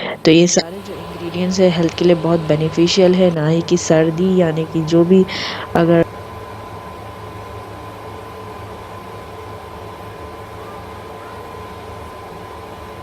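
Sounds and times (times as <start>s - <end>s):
background hiss: 0.0s - 13.0s
high whine: 0.0s - 13.0s
low hum: 0.0s - 13.0s.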